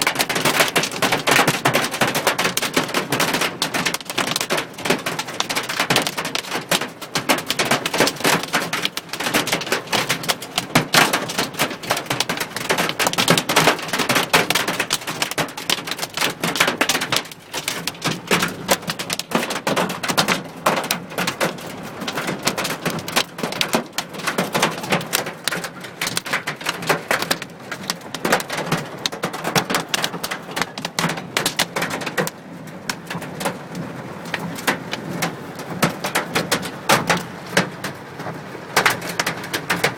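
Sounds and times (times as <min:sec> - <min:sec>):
hail and rain on car roof: 0:00.0 - 0:39.9.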